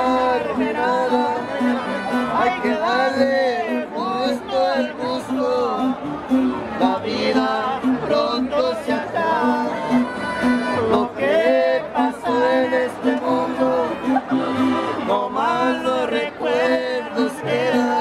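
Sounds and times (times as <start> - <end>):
guitar plucking: 0.0 - 18.0
men singing: 0.0 - 18.0.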